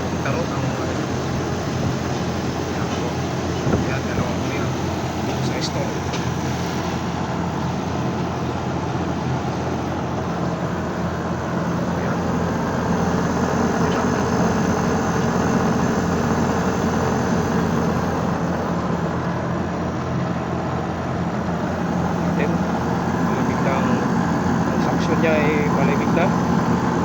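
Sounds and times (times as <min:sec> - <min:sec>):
air conditioner compressor humming: 0:00.0 - 0:27.0.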